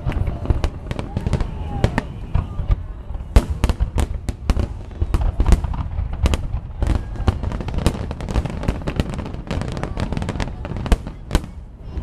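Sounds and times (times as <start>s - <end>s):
fireworks bursting with sharp bangs: 0.0s - 12.0s.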